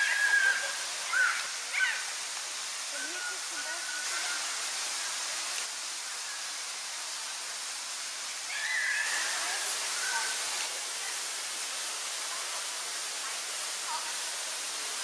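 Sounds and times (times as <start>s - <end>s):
outdoor rushing hiss: 0.0s - 15.0s.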